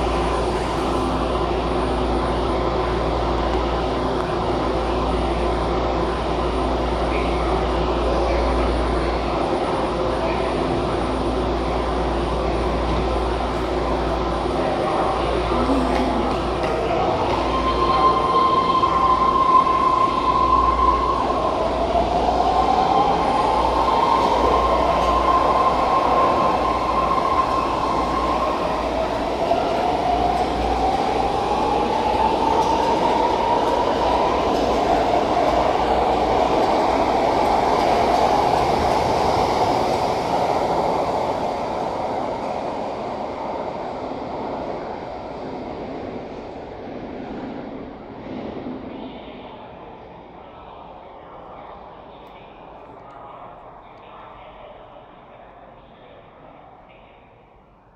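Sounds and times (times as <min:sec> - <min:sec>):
train propulsion whine: 0:00.0 - 0:48.2.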